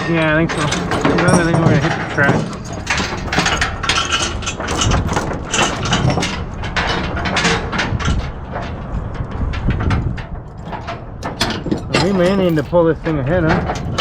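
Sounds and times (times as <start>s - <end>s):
metallic clanking of tracks: 0.0s - 14.0s.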